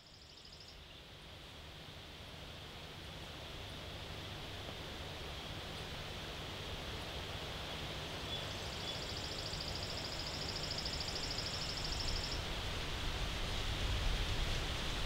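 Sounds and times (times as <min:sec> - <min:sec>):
wind rustling trees and grass: 0:00.0 - 0:15.0.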